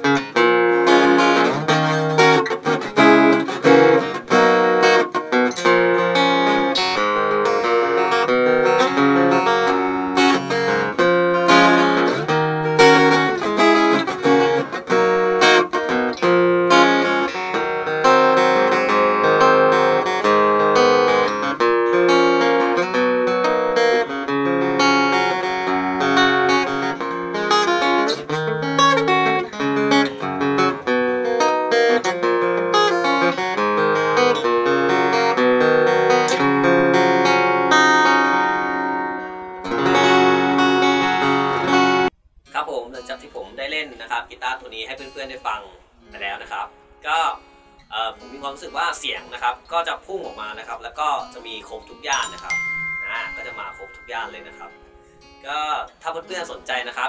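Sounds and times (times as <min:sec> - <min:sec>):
acoustic guitar playing: 0:00.0 - 0:42.2, 0:43.8 - 0:56.9.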